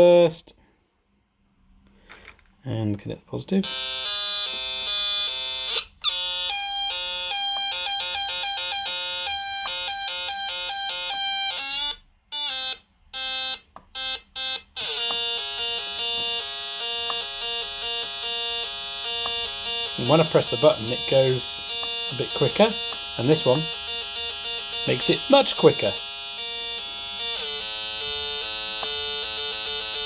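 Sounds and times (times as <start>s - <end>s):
buzzy electronic two-pitch bleeping: 3.6s - 30.0s.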